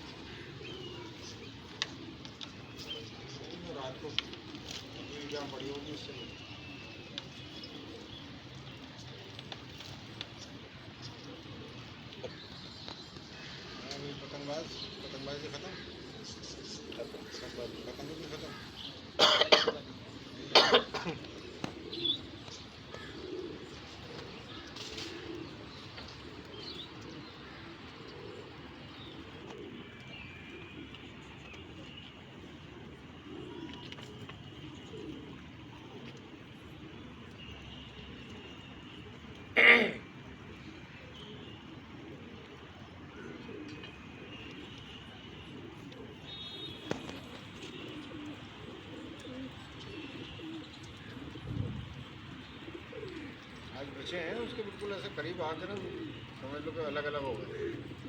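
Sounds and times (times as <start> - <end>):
pigeons cooing: 0.0 - 58.0
small birds chirping: 0.0 - 58.0.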